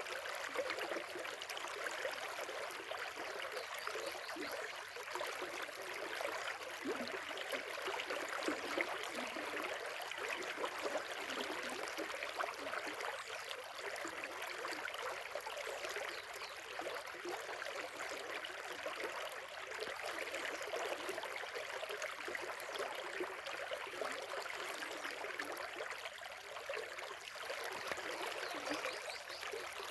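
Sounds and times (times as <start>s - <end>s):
stream babbling over stones: 1.0s - 29.9s.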